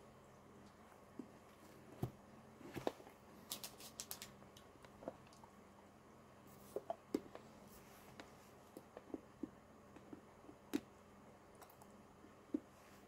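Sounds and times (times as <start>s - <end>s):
quiet steady hum: 0.0s - 13.0s.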